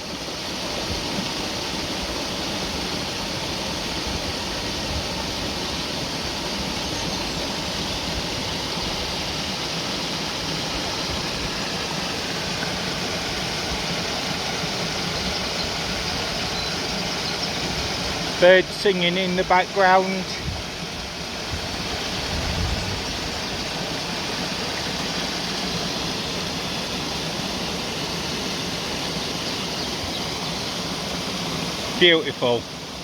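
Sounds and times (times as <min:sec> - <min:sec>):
brook water rushing: 0:00.0 - 0:33.0.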